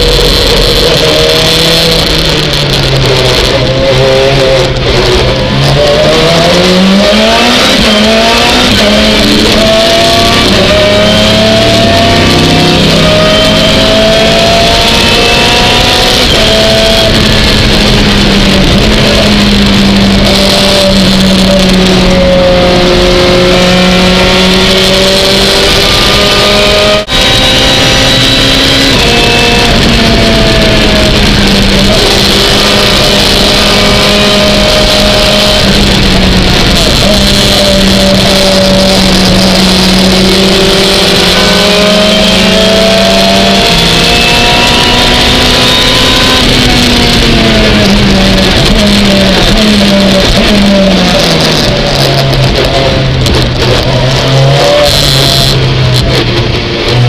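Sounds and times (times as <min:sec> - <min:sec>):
race car engine under load: 0:00.0 - 0:57.0.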